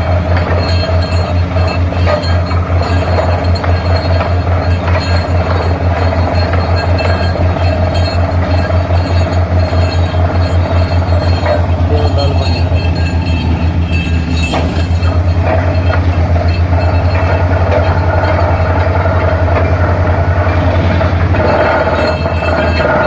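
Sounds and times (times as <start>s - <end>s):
drilling rig engine throbbing: 0.0s - 23.0s.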